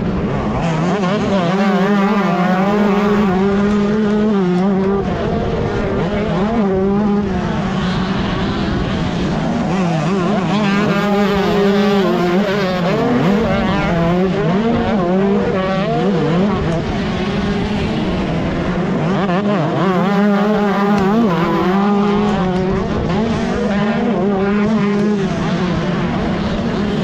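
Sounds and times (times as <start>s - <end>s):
motocross bike engine revving: 0.0s - 27.0s.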